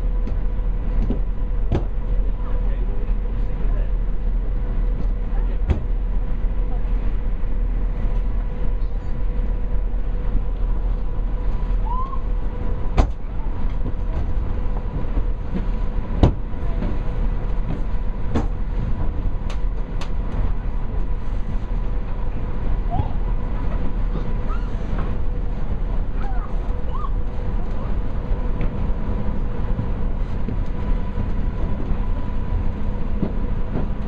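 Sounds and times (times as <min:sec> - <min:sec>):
ferry machinery hum: 0:00.0 - 0:34.0.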